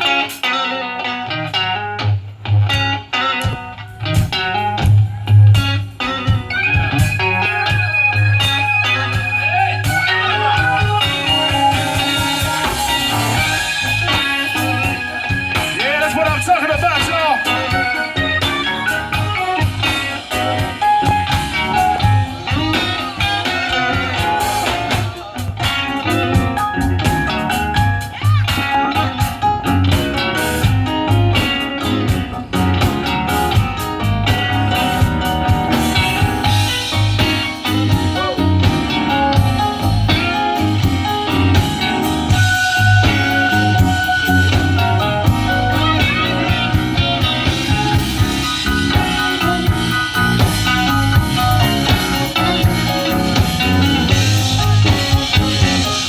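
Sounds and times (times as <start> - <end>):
electric guitar: 0.0 - 56.0
live blues band playing: 0.0 - 56.0.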